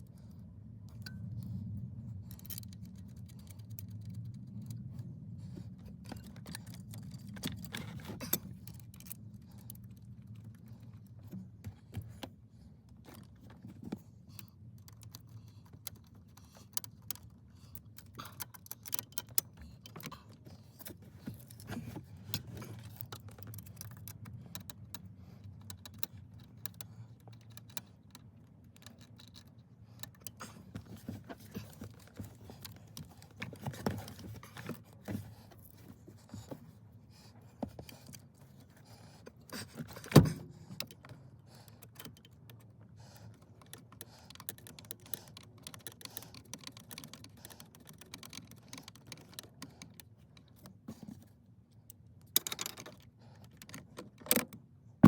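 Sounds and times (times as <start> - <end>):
tools and parts rattling: 5.6 - 12.3, 14.6 - 36.9, 37.5 - 54.6.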